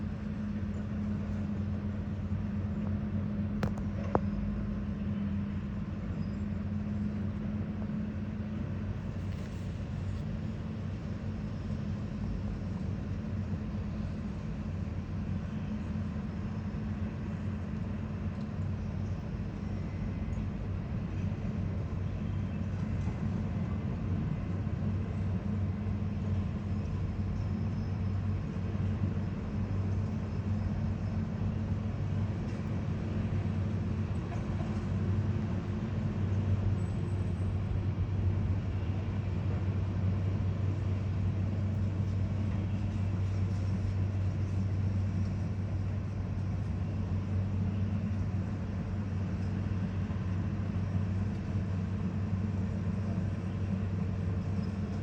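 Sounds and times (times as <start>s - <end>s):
heavy engine droning: 0.0s - 55.0s.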